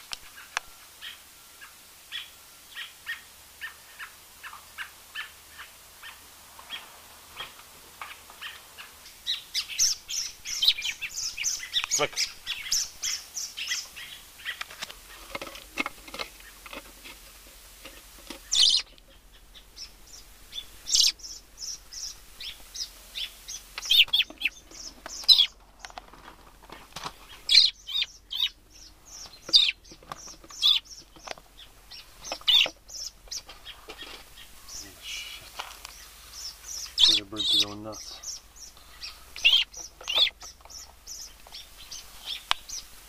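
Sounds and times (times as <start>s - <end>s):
small bird chirping: 0.0s - 43.0s.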